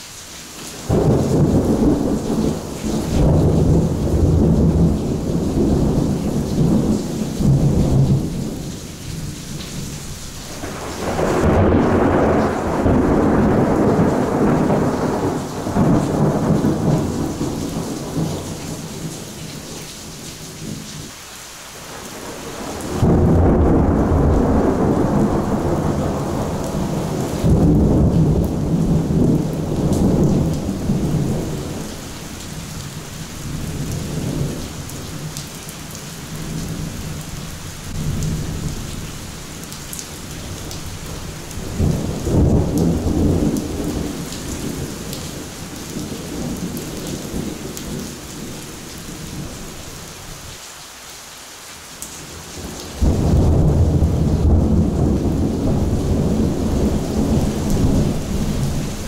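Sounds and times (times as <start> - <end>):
steady rain: 0.0 - 59.0
thunder rumbling: 0.9 - 19.3, 22.1 - 35.5, 40.2 - 49.8, 52.6 - 59.0.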